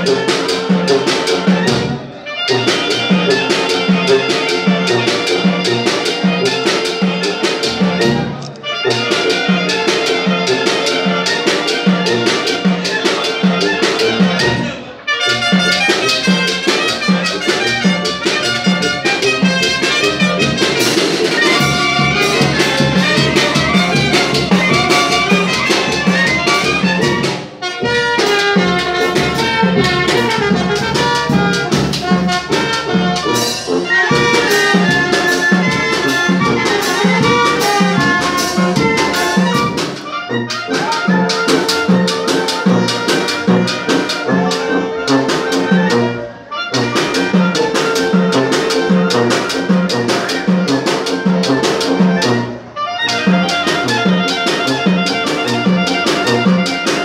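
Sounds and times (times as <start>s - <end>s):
steady drum beat: 0.0s - 57.0s
wind band playing: 0.0s - 57.0s.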